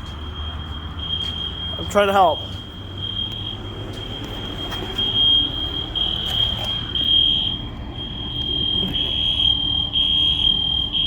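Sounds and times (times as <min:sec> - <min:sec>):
fire alarm high-pitched tone: 0:00.0 - 0:11.0.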